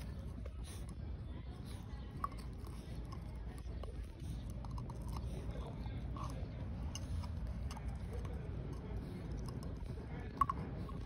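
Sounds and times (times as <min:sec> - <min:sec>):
puppy gnawing on bone: 0:00.0 - 0:11.0.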